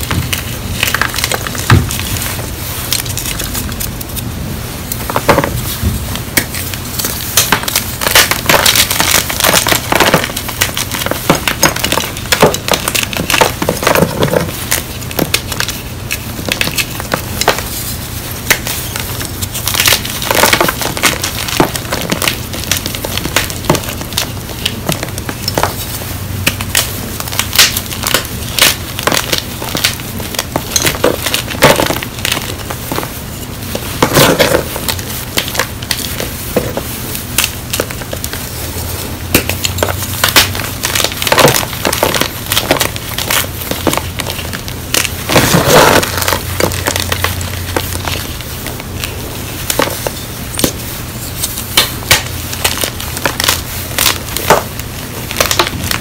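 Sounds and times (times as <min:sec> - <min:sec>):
chalk crunching and crackling: 0:00.0 - 0:56.0.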